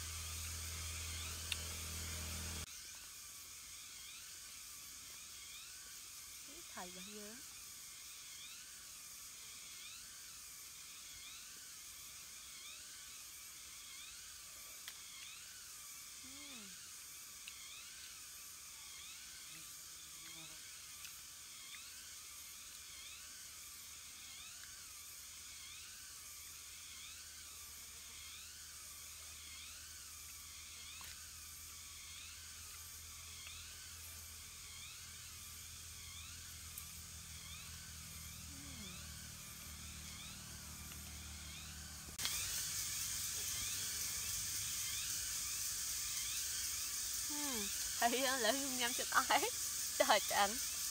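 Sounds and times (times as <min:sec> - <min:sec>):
high-pitched insect drone: 0:00.0 - 0:50.9.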